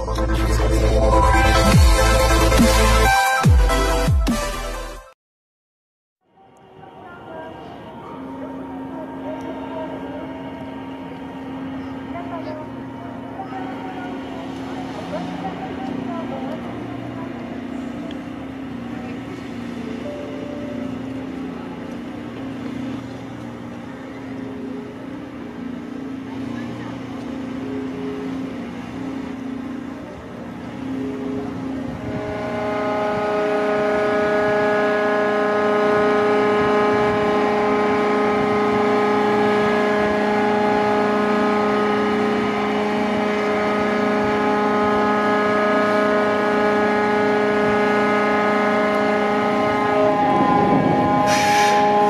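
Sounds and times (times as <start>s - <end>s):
ship's horn long blast: 0.0s - 5.0s, 6.3s - 52.0s
lower horn note: 6.9s - 52.0s.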